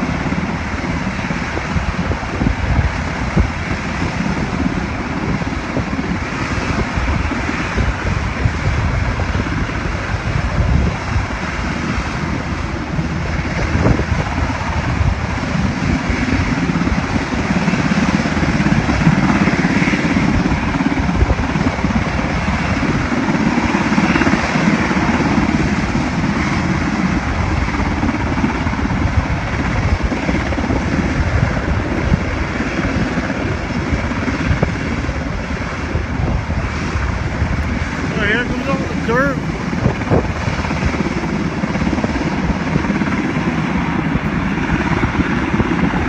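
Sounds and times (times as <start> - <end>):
helicopter rotor chop: 0.0 - 46.0
turbine engine noise: 0.0 - 46.0.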